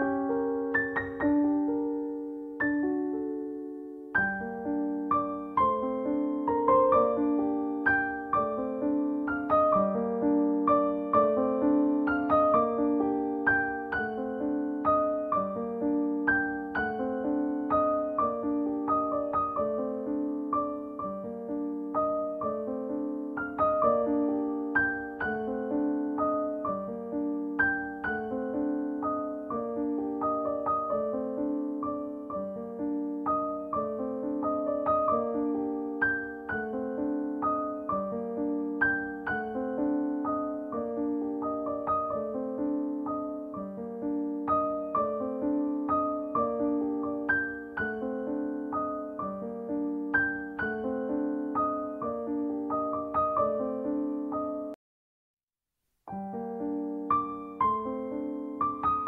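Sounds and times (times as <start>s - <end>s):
slow solo piano melody: 0.0s - 54.8s, 56.0s - 59.0s.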